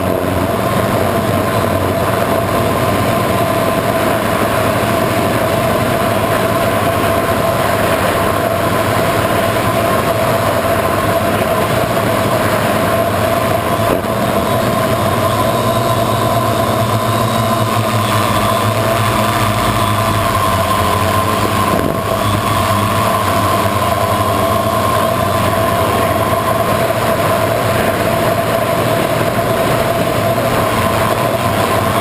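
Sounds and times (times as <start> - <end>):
drone motors humming: 0.0 - 32.0.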